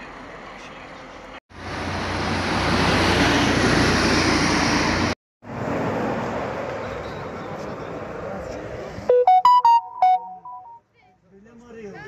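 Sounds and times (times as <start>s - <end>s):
road traffic rushing: 0.0s - 10.7s
quiet roadside noise: 0.0s - 12.0s.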